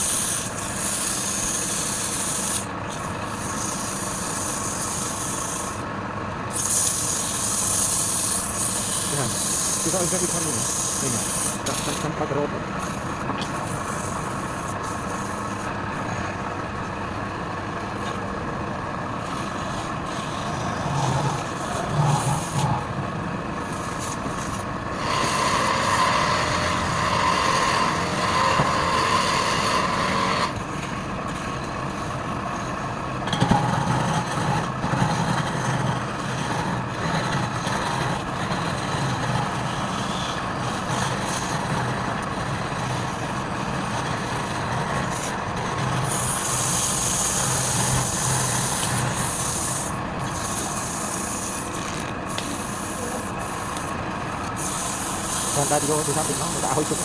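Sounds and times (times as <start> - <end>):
tool cutting spinning wood: 0.0 - 57.0
wood lathe motor hum: 0.0 - 57.0.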